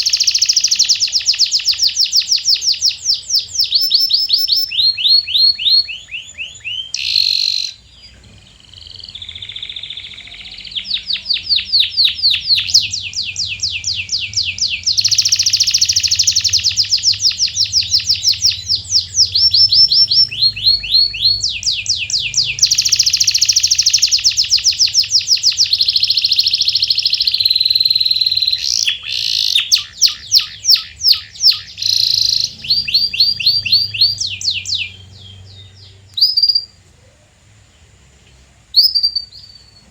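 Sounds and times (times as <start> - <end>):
canary singing trills: 0.0 - 38.0, 38.7 - 39.9.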